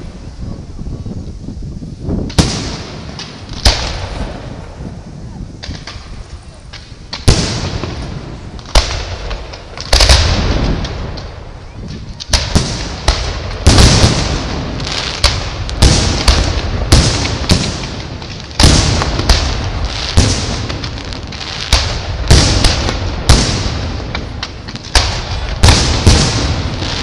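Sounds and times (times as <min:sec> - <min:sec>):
hiss of burning firework stars: 0:00.0 - 0:27.0.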